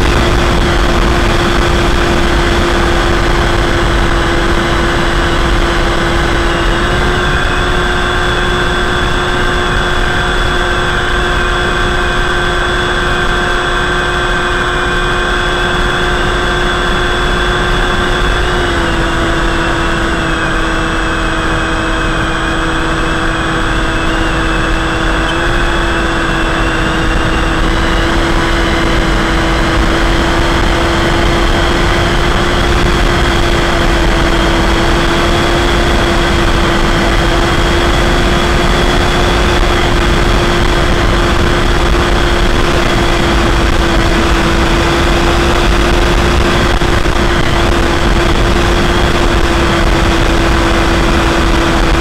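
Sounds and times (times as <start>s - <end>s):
electric motor and propeller hum: 0.0s - 52.0s
wind rushing over microphone: 0.0s - 52.0s.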